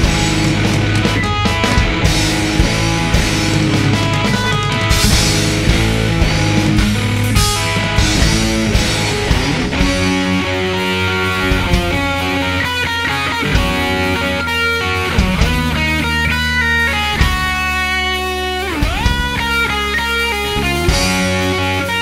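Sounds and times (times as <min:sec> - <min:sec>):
bass line: 0:00.0 - 0:22.0
electric guitar rock music: 0:00.0 - 0:22.0.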